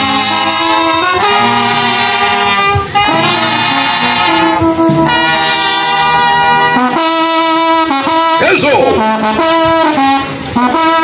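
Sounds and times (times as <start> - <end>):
brass band playing chords: 0.0 - 11.0.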